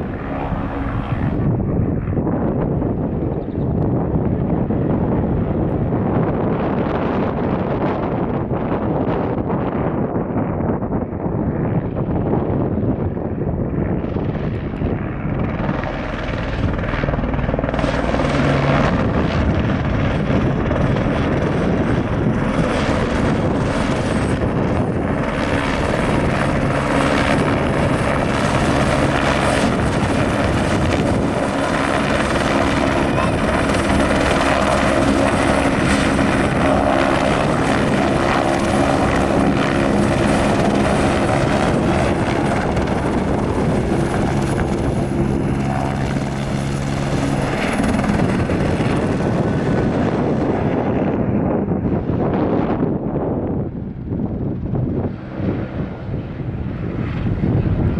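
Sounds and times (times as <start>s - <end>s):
helicopter rotor and turbine: 0.0s - 57.9s.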